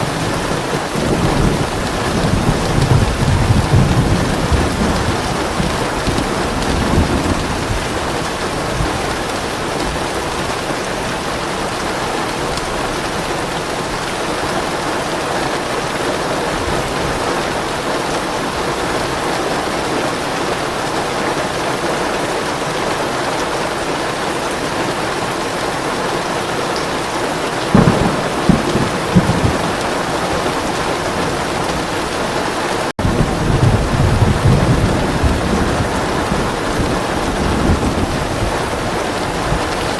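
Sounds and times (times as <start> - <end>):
thunder rumbling: 0.0 - 21.6, 26.8 - 39.9
rain pouring: 0.0 - 39.9.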